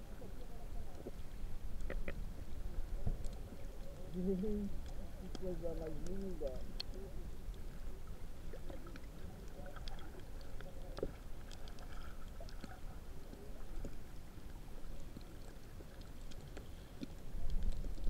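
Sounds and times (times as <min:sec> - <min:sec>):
underwater rumble and sloshing: 0:00.0 - 0:18.0
small underwater clicks: 0:00.1 - 0:18.0.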